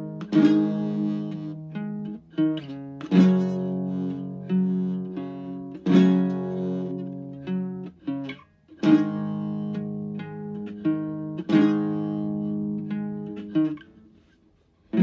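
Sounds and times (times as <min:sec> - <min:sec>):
guitar notes plucked: 0:00.0 - 0:14.0.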